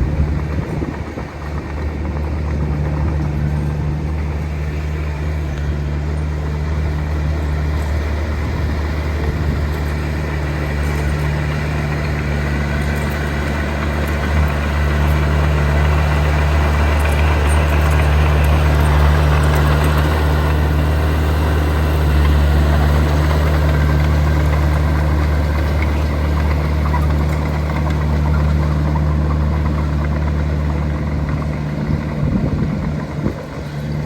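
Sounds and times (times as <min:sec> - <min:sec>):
heavy diesel engine droning: 0:00.0 - 0:34.0.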